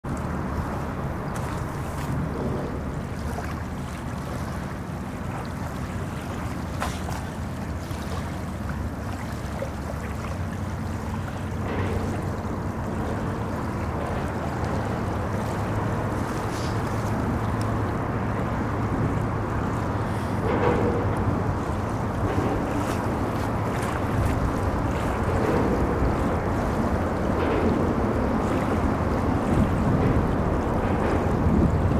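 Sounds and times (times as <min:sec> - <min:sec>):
river water flowing: 0:00.0 - 0:31.9
traffic rumble on bridge: 0:00.0 - 0:31.9.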